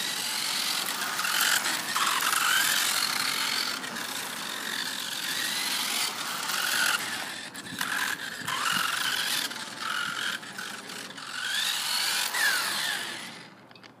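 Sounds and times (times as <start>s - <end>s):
rc car motor whining: 0.0s - 13.9s.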